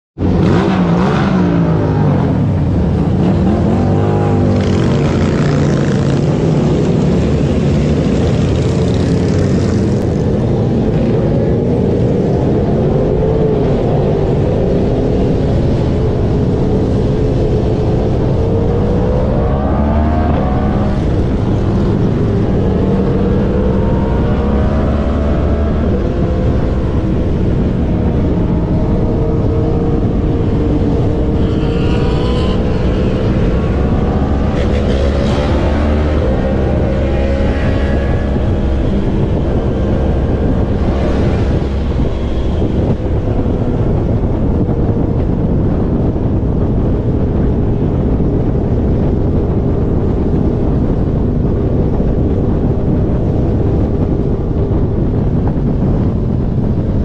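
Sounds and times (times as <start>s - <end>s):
motorcycle engine accelerating: 0.2s - 57.0s
rushing wind noise: 0.2s - 57.0s.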